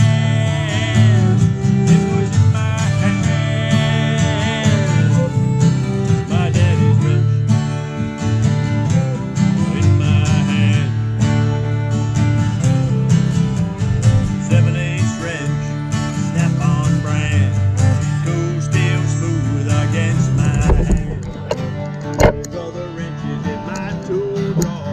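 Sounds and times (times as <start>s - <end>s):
fiddle playing melody: 0.0s - 24.6s
acoustic guitars strumming: 0.0s - 24.9s.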